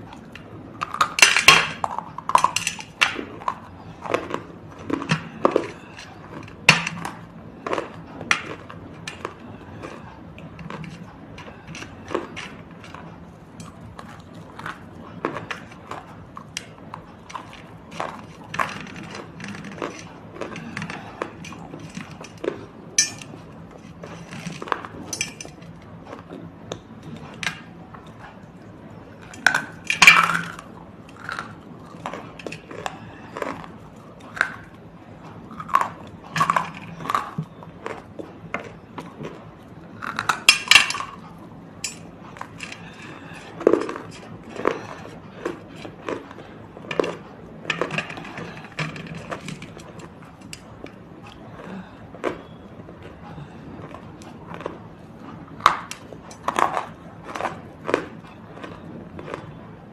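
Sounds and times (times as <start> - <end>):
crunchy food chewing: 0.0 - 59.9.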